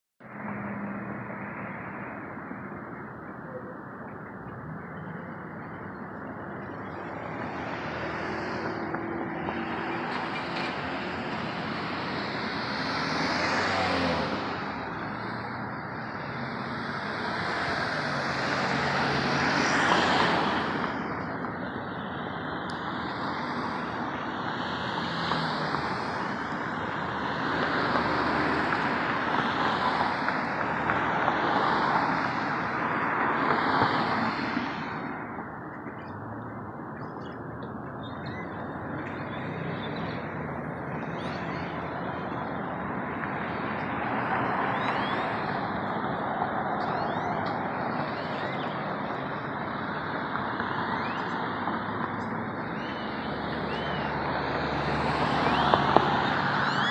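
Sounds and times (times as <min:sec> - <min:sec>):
cars passing by: 0:00.2 - 0:56.9.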